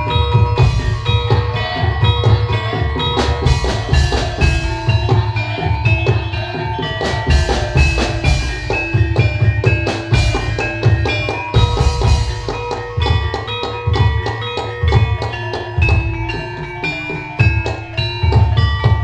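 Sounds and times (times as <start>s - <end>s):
metallophones ringing melody: 0.0s - 19.0s
steady drum beats: 0.0s - 19.0s.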